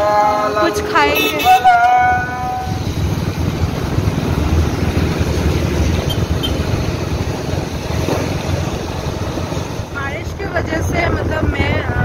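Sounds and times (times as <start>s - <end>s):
vehicle road noise on wet road: 0.0s - 12.0s.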